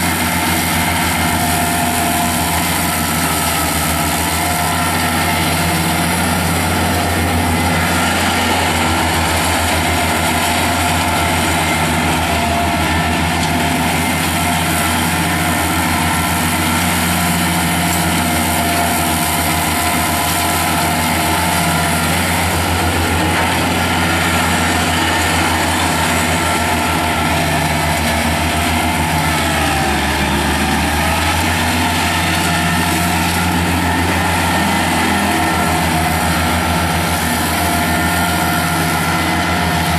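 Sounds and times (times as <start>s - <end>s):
mower cutting grass: 0.0s - 39.9s
tractor diesel engine running: 0.0s - 39.9s.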